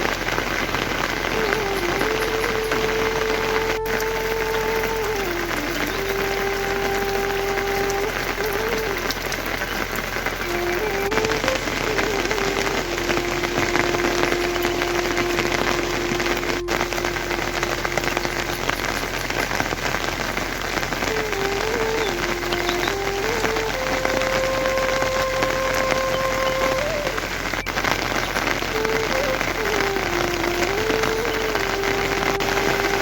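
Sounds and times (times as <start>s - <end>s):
heavy rain patter: 0.0s - 33.0s
held tone changing pitch: 1.3s - 19.8s, 20.7s - 27.6s, 28.6s - 33.0s.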